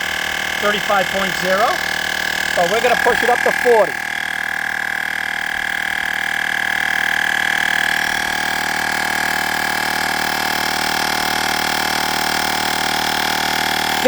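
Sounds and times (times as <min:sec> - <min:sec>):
air compressor buzzing: 0:00.0 - 0:14.0.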